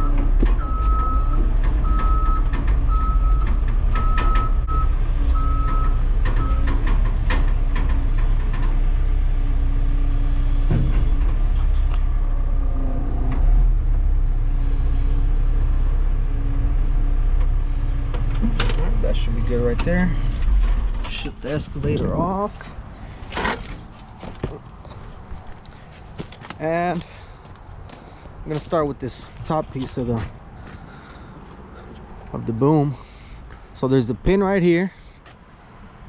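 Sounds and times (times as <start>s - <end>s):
excavator diesel engine running: 0.0s - 33.8s.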